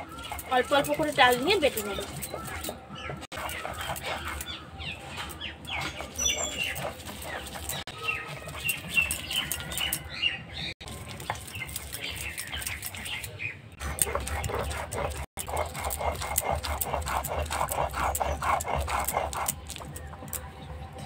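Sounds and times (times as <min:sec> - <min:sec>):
grinding clicks and scrapes: 0:00.0 - 0:10.2, 0:10.8 - 0:21.0
small birds chirping: 0:00.0 - 0:21.0.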